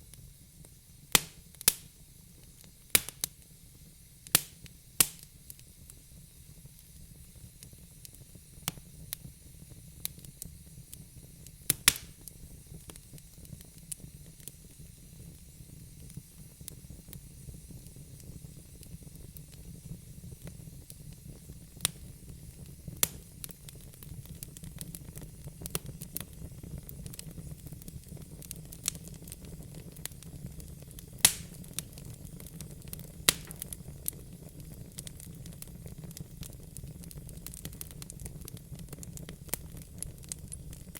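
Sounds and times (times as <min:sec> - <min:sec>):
fire crackling and popping: 0:00.0 - 0:40.9
fire flames rumbling: 0:06.4 - 0:40.9.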